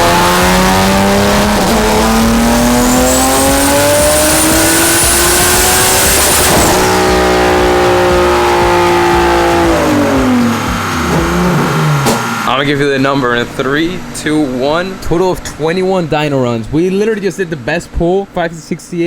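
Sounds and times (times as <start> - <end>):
car engine revving: 0.0 - 17.1.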